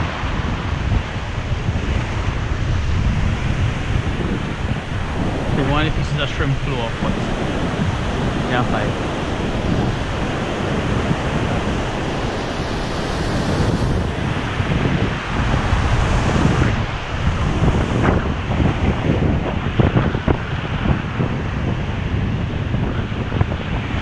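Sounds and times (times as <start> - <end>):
ocean surf washing in: 0.0 - 24.0
wind buffeting microphone: 0.0 - 24.0.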